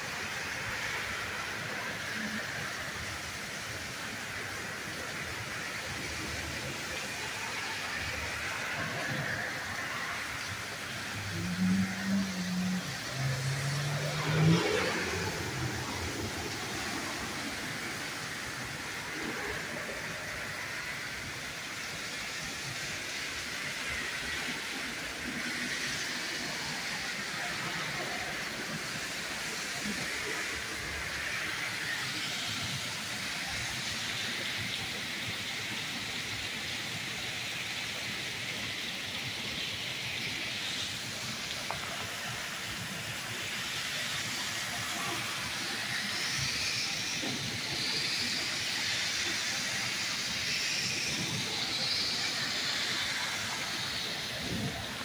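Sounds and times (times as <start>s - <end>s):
torrential rain pouring: 0.0s - 55.0s.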